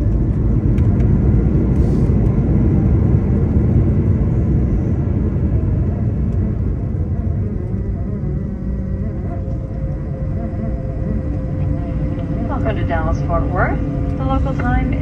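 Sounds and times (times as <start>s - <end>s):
airplane cabin landing rumble: 0.0s - 15.0s.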